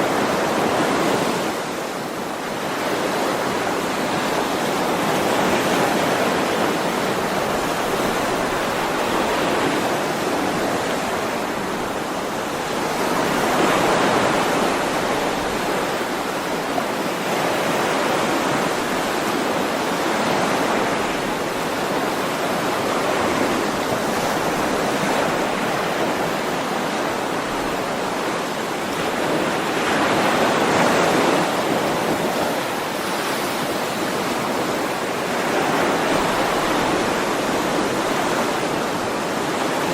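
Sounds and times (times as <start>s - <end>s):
ocean surf rushing ashore: 0.0s - 39.9s.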